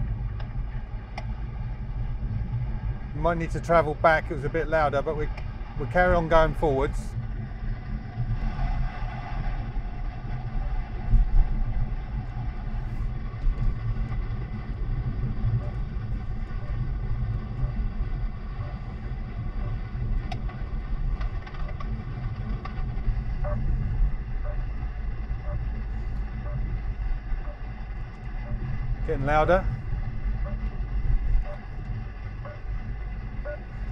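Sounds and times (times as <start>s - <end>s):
engine and tyre rumble: 0.0s - 33.9s.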